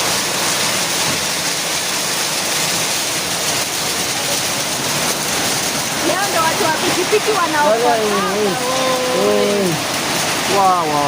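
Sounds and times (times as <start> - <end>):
heavy rain with hail: 0.0 - 11.0.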